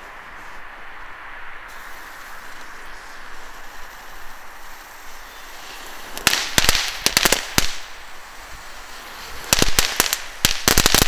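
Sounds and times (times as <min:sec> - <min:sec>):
crackling fireworks popping: 0:00.0 - 0:11.0.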